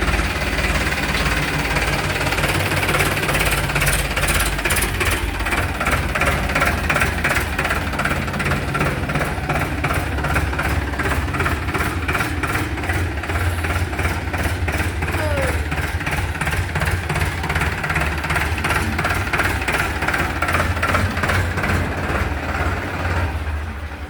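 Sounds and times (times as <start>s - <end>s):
diesel tractor engine idling: 0.0s - 24.0s.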